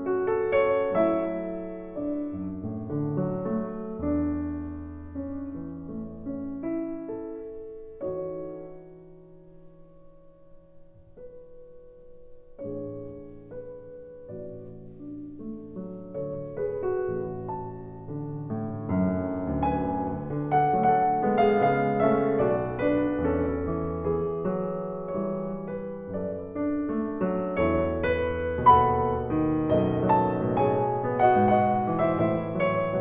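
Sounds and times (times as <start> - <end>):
soft solo piano music: 0.0 - 33.0.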